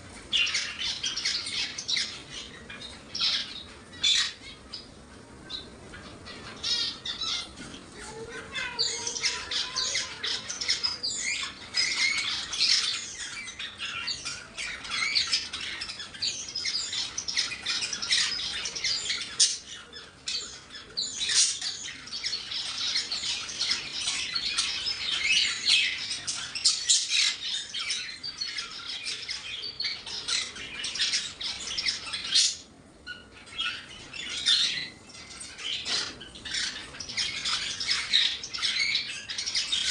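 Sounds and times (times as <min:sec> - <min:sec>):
parrots squawking and chattering: 0:00.0 - 0:39.9.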